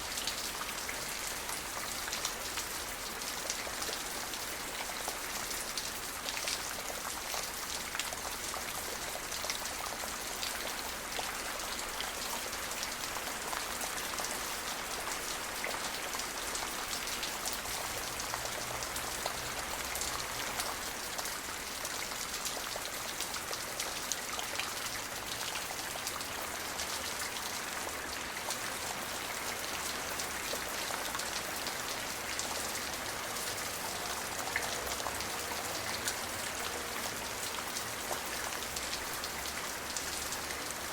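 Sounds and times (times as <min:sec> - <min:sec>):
rain drops pattering: 0:00.0 - 0:40.9.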